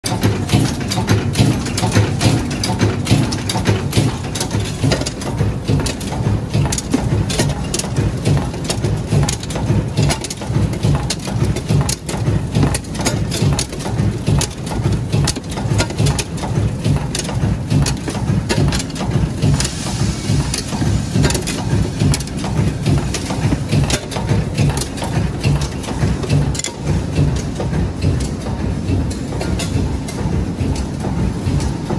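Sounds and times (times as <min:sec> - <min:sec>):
machine rapid metallic clatter: 0:00.0 - 0:31.9.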